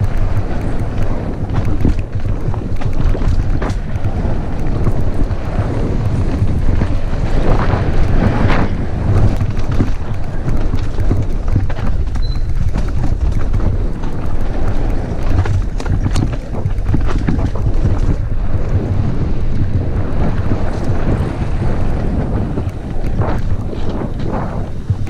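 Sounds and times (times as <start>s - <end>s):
bike rattling clicks: 0.0s - 25.0s
tyres rolling over dirt: 0.0s - 25.0s
wind buffeting microphone: 0.0s - 25.0s.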